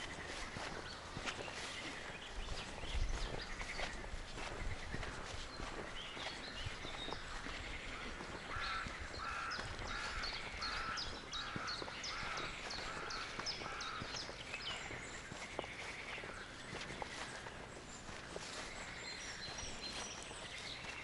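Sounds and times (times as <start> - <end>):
bird calling: 0.0 - 21.0
footsteps on forest floor: 0.0 - 21.0.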